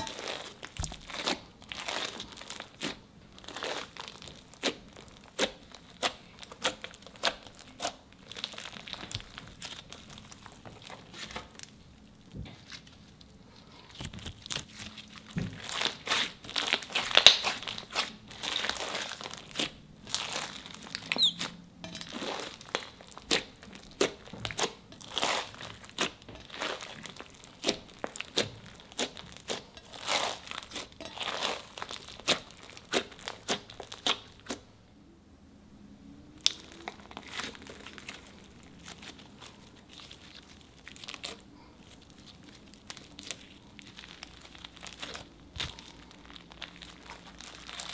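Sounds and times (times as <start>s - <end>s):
slime crackling and popping: 0.0s - 11.8s, 13.9s - 34.6s, 36.4s - 47.9s.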